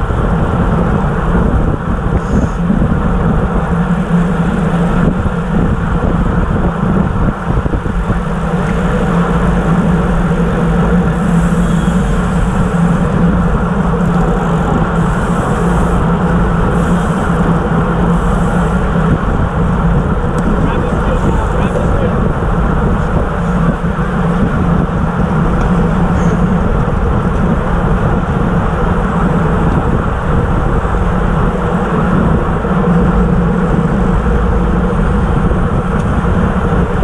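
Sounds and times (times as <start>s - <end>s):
bike tyre hum on asphalt: 0.0s - 37.0s
wind rush on microphone: 0.0s - 37.0s.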